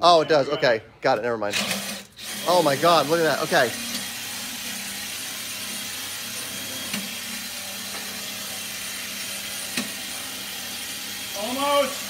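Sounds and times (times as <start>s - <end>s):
cordless drill boring into steel: 1.6s - 12.0s.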